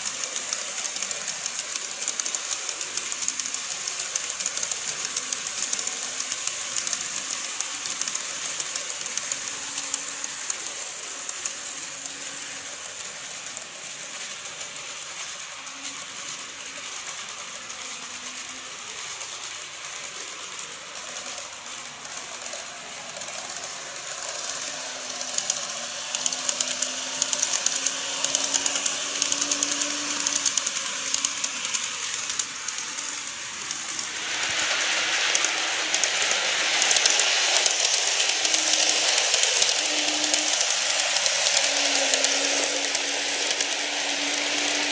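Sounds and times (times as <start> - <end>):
model train wheels clicking on rails: 0.0 - 44.9.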